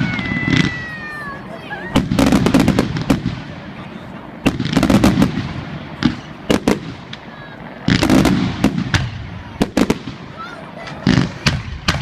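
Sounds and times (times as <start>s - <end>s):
firework booms: 0.0s - 12.0s
fireworks bursting: 0.0s - 12.0s.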